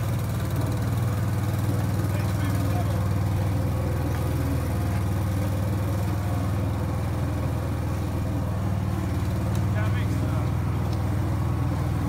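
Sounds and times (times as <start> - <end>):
dumper engine droning: 0.0 - 12.0.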